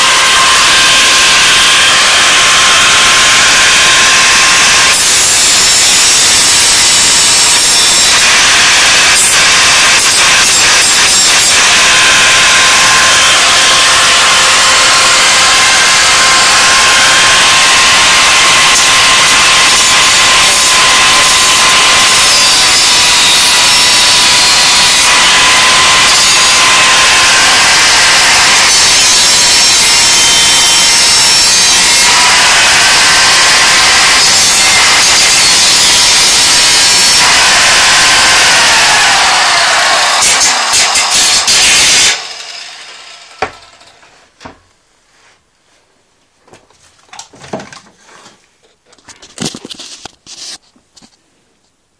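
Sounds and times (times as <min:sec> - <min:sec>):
power tool cutting: 0:00.0 - 0:44.1.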